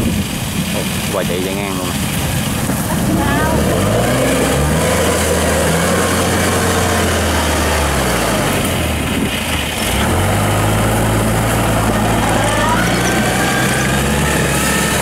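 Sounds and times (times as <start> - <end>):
crawler carrier engine running: 0.0 - 15.0.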